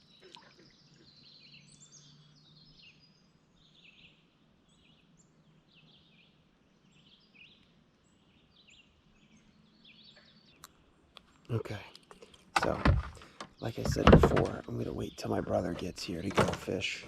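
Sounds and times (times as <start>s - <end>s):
faint songbird chirping: 0.0s - 17.0s.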